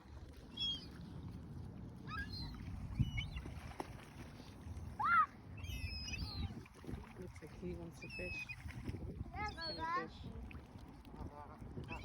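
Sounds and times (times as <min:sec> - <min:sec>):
low rumble of wind: 0:00.0 - 0:12.0
waterbirds calling: 0:00.0 - 0:12.0.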